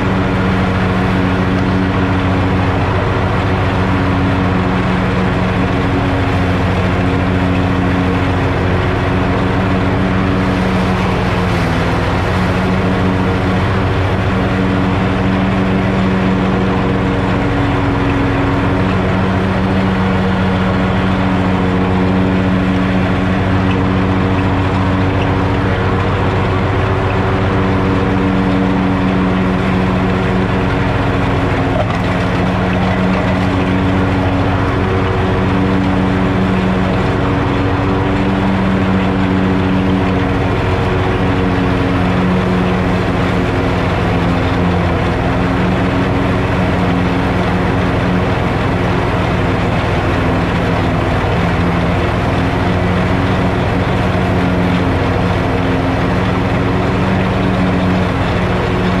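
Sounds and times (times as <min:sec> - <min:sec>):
lawn mower mowing grass: 0:00.0 - 0:59.0.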